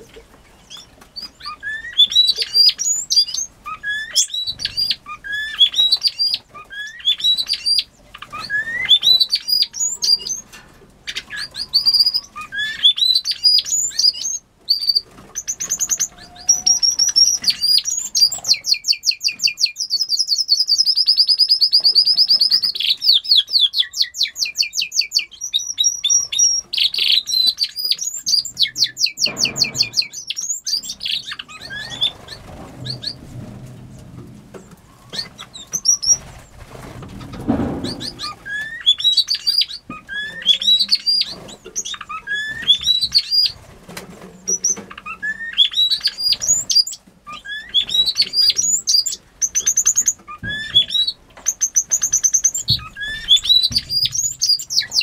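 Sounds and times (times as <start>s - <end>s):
cage birds singing: 0.0s - 55.0s.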